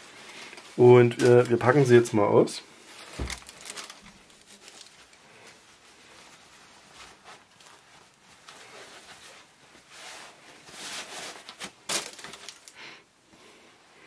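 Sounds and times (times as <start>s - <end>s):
tissue paper and cloth rustling: 0.0s - 12.8s.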